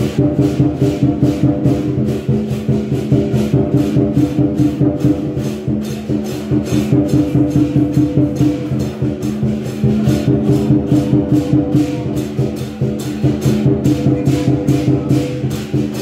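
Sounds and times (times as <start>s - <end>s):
music with steady beat: 0.0s - 16.0s.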